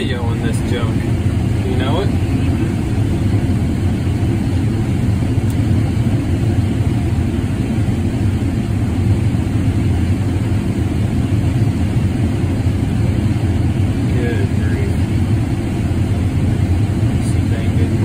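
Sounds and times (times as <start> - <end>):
combine harvester low rumble: 0.0 - 18.0.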